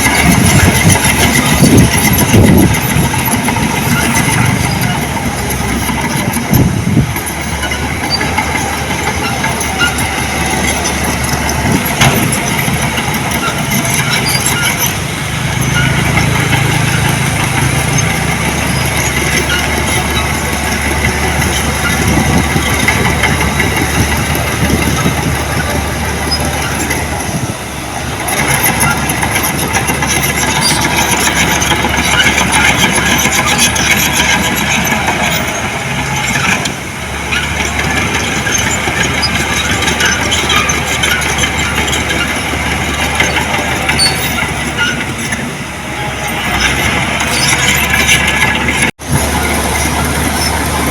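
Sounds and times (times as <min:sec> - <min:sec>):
earthmoving diesel engine running: 0:00.0 - 0:50.9.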